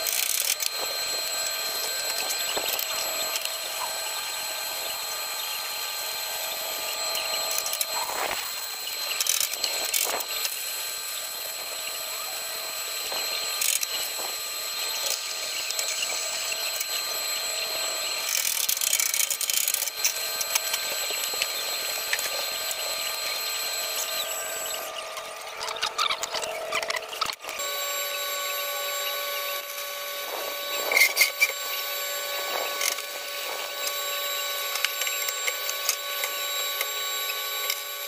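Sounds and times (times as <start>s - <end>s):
high whine: 0.0s - 38.0s
welding arc crackling and sizzling: 0.0s - 38.0s.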